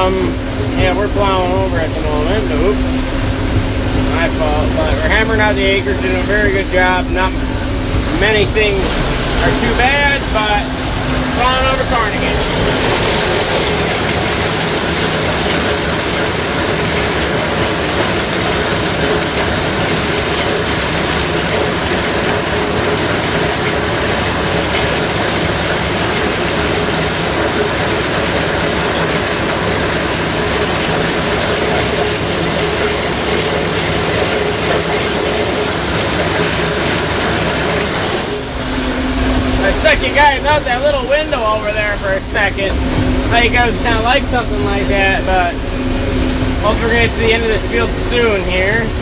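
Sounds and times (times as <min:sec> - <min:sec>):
combine harvester mechanical clatter: 0:00.0 - 0:49.0
engine hum: 0:00.0 - 0:49.0.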